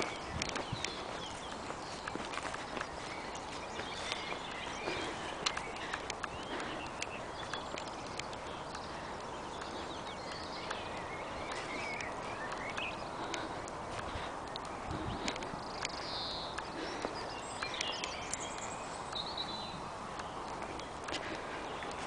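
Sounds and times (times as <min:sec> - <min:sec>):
small birds warbling: 0:00.0 - 0:22.0.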